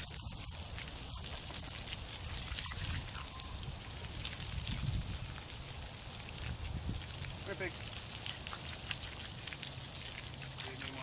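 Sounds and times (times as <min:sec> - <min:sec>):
water spraying onto mud: 0:00.0 - 0:11.0.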